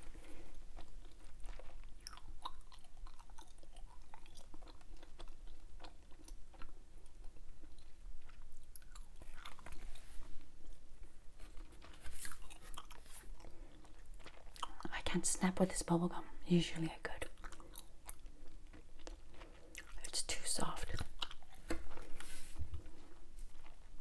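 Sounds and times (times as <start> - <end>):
chewing gum: 0.0 - 15.2, 17.1 - 24.0.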